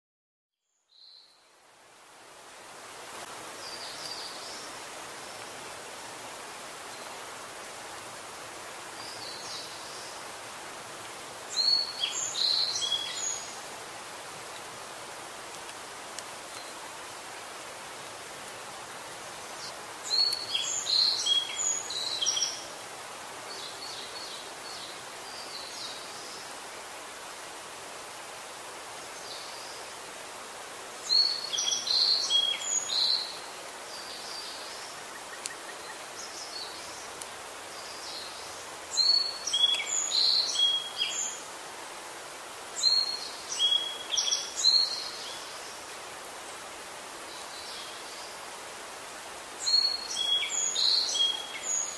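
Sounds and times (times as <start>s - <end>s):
songbird chirping: 0.6s - 1.6s, 2.6s - 28.3s, 28.9s - 51.9s
steady hiss: 0.8s - 51.9s.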